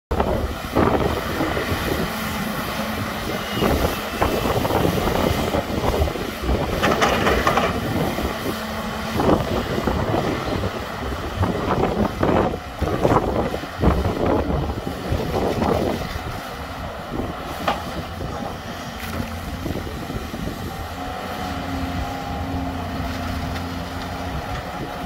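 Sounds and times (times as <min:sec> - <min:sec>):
excavator diesel engine: 0:00.1 - 0:25.0.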